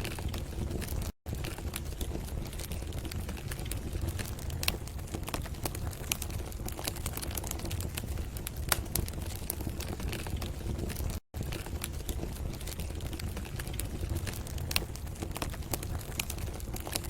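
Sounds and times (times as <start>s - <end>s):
low rumble of flames: 0.0s - 17.0s
wood fire crackling: 0.0s - 17.0s
sharp pops of fire: 0.1s - 17.0s.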